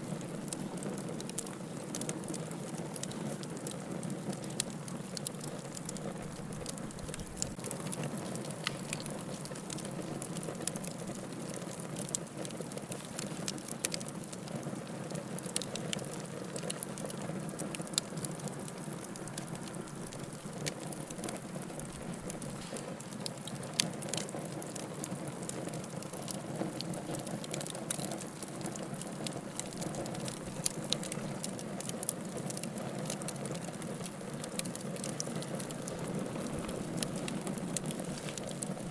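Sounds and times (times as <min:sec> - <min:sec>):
firewood crackling in fireplace: 0:00.0 - 0:38.9.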